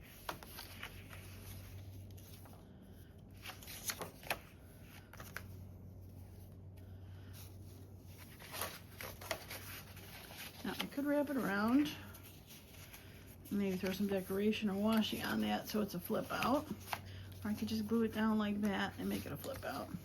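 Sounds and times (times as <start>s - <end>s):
paper cards rustling: 0.0s - 6.6s, 7.2s - 20.0s.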